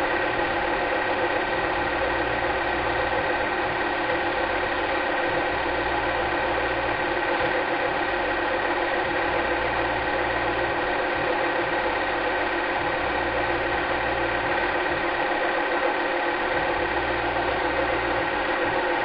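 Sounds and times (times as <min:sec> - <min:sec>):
film projector whirring and rattling: 0:00.0 - 0:19.0.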